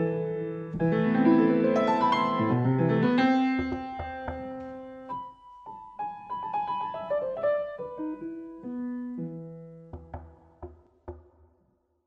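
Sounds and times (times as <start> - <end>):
solo piano: 0.0 - 10.8.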